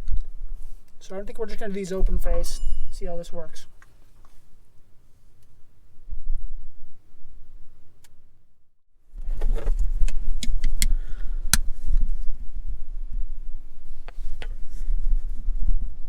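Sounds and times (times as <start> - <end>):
wind rumble on microphone: 0.0 - 3.5, 5.5 - 8.4, 9.1 - 16.0.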